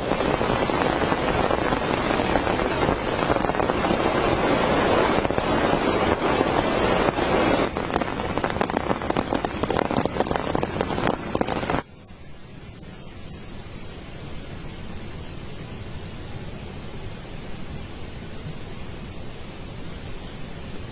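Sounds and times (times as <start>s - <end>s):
heavy rain falling: 0.0s - 20.9s
quiet hiss: 0.0s - 20.9s.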